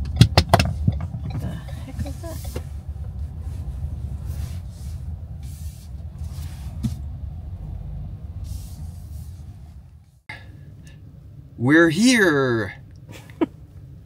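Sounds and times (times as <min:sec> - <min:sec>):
tyre and engine rumble: 0:00.0 - 0:11.4.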